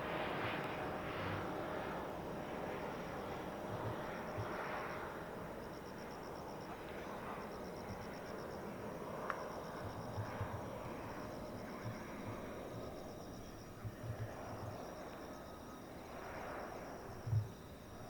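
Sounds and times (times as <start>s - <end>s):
outdoor noise haze: 0.0s - 18.0s
insect chirping: 2.6s - 18.0s.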